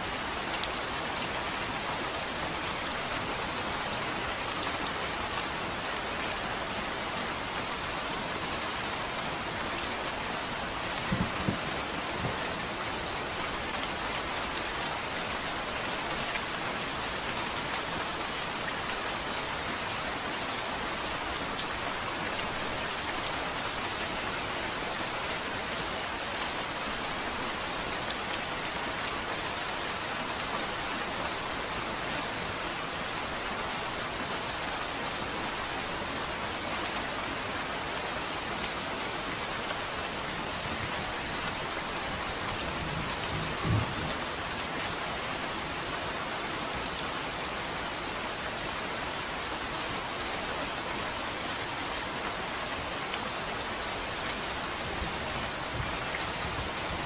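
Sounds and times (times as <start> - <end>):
rain falling on a surface: 0.0 - 57.0.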